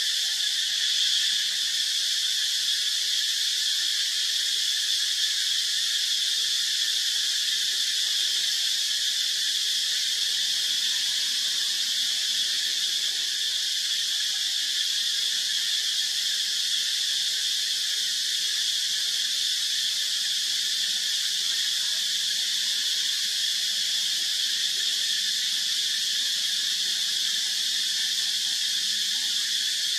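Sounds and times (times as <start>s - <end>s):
insects chorus hissing: 0.0s - 29.9s.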